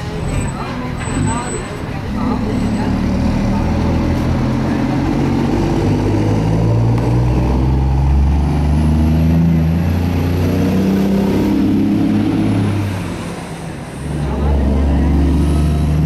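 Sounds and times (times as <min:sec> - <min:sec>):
diesel truck engine under load: 0:00.0 - 0:16.0.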